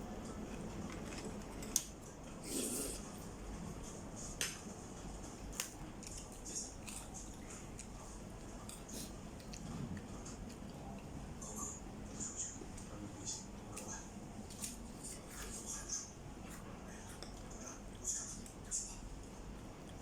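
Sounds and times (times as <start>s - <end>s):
mouth and food sounds: 0.0s - 4.1s, 5.0s - 20.0s.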